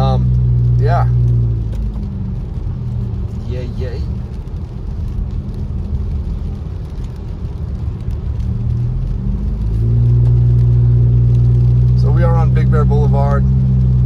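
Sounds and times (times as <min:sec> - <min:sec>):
car engine and tyre hum: 0:00.0 - 0:14.0.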